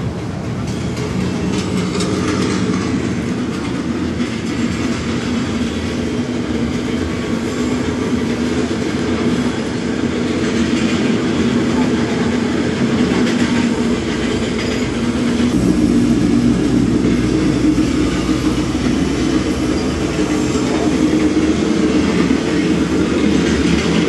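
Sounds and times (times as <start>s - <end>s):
railway car rumble and rattle: 0.0s - 24.0s.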